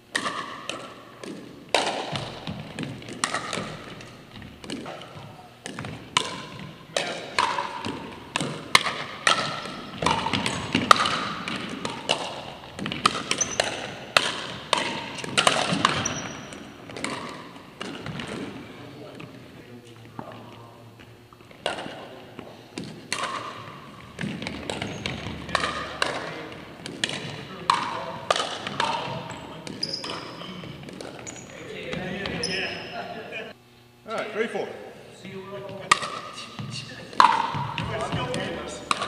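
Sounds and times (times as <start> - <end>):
ball bouncing on wooden floor: 0.1 - 18.6, 20.2 - 32.5, 35.6 - 39.0
paddles hitting plastic ball: 0.1 - 18.6, 20.1 - 32.4, 35.8 - 39.0.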